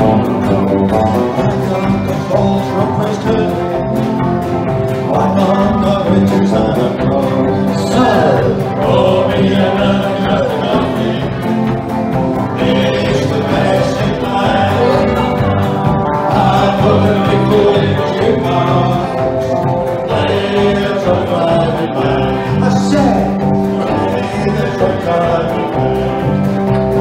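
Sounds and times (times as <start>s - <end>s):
country band with singing: 0.0s - 27.0s.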